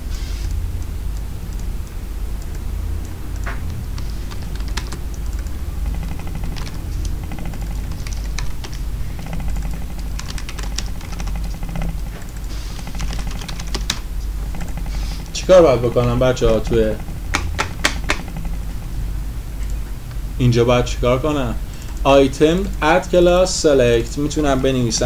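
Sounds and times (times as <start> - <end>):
steady low hum: 0.0 - 25.0
computer keyboard typing: 0.5 - 18.9, 21.5 - 23.4.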